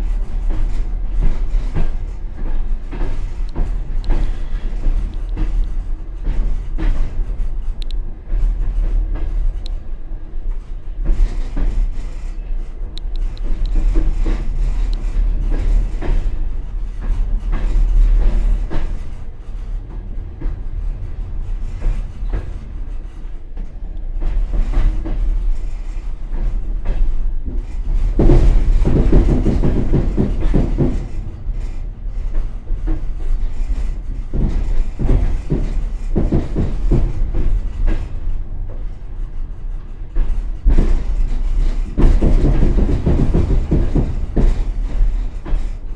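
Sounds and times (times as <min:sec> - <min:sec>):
train low rumble: 0:00.0 - 0:45.9
train wheels clattering over joints: 0:00.0 - 0:45.9.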